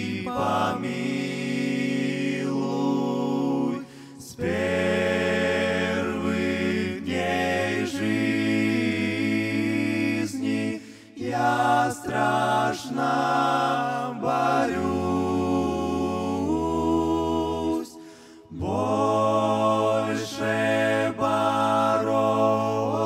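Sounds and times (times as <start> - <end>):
men singing a cappella harmony: 0.0 - 23.0.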